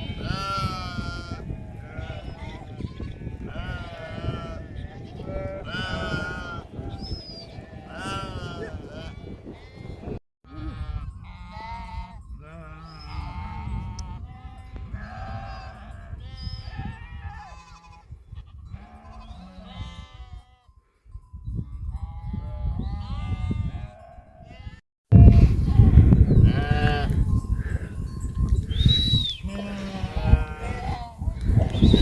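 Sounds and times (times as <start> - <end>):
livestock bleating: 0.0 - 20.7, 21.9 - 28.0, 29.3 - 31.8.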